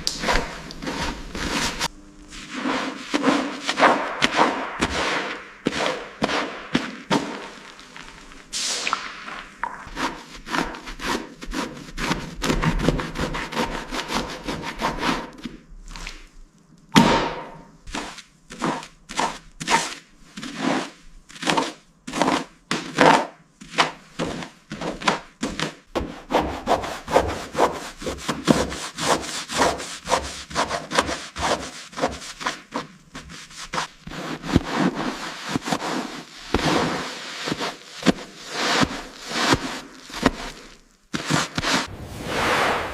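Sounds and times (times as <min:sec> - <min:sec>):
hand scraping hard surface: 0:00.0 - 0:16.2, 0:17.5 - 0:42.9.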